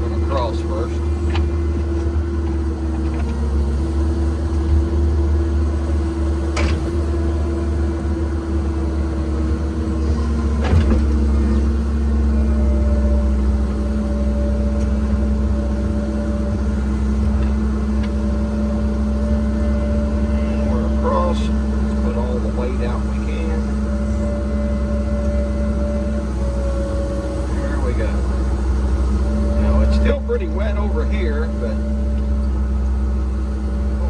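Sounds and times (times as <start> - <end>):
excavator diesel engine running: 0.0 - 34.0
hydraulic whine: 0.0 - 34.0.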